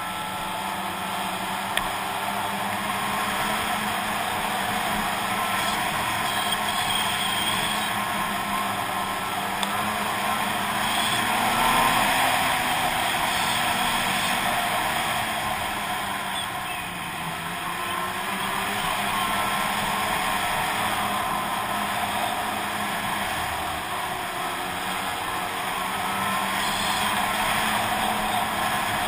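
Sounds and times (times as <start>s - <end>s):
snowmobile running: 0.0s - 29.0s.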